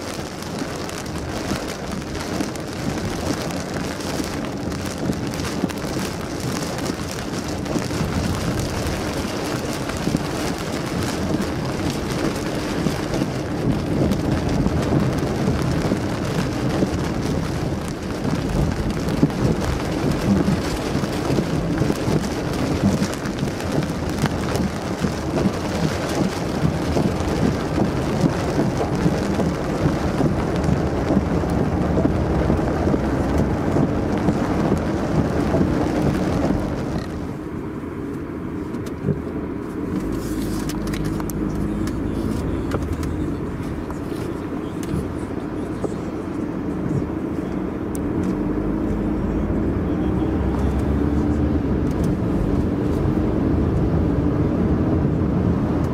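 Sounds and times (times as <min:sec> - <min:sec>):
car driving hum: 0:00.0 - 0:55.9
heavy rain on car windshield: 0:00.0 - 0:55.9.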